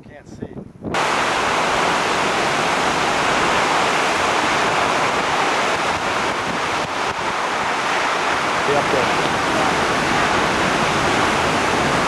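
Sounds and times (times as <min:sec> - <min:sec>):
waterfall rushing: 0:01.0 - 0:12.0.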